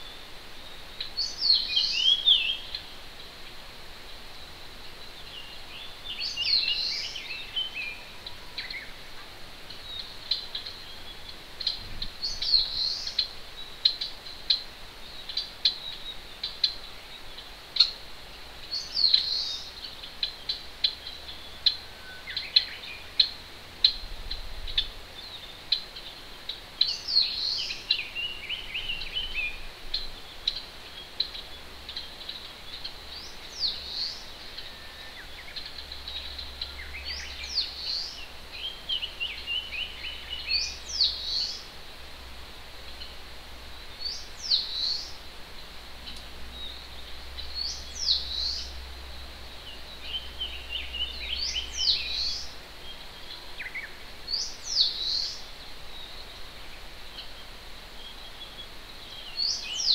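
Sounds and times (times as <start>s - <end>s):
distant mountain stream hiss: 0.0s - 59.9s
songbirds singing: 0.0s - 59.9s.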